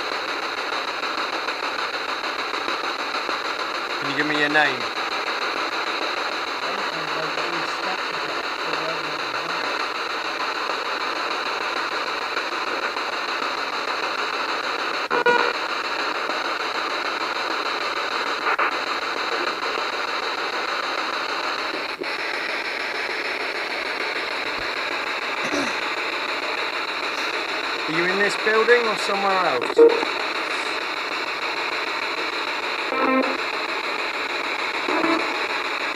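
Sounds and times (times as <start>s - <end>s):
steady rushing hiss: 0.0s - 35.9s.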